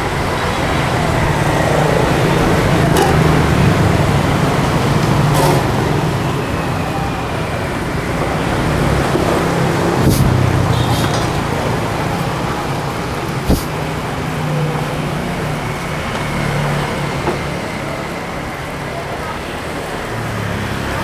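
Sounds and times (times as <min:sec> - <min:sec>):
motorbike and car engines passing: 0:00.0 - 0:21.0.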